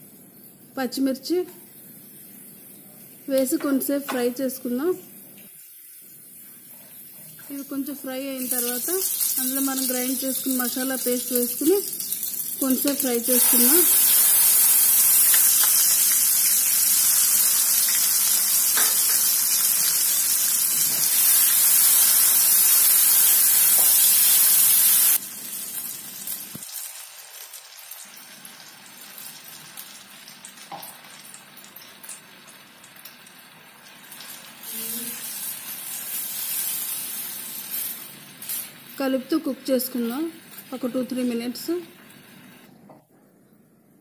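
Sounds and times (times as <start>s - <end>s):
paste sizzling in hot oil: 5.6s - 42.6s.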